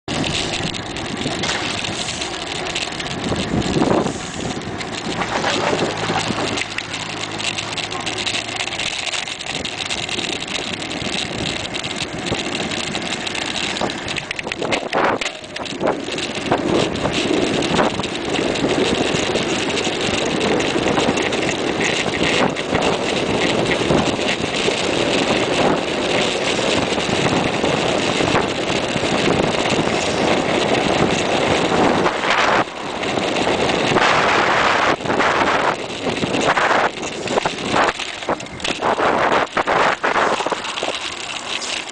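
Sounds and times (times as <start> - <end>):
wind rushing over microphone: 0.1 - 7.4, 9.4 - 41.9.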